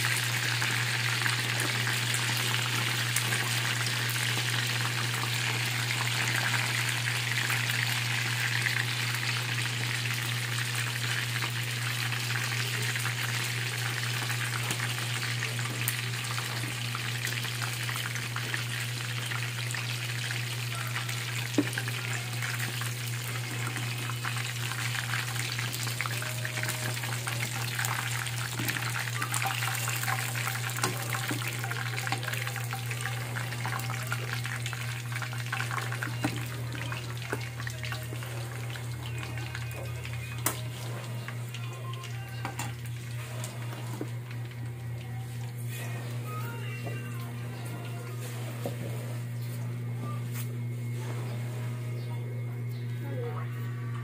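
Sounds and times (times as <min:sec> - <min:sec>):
chicken deep-frying in oil: 0:00.0 - 0:48.6.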